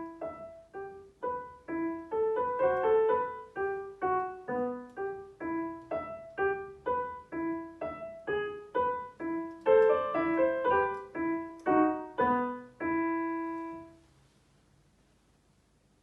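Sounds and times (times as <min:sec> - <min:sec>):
piano piece: 0:00.0 - 0:14.2.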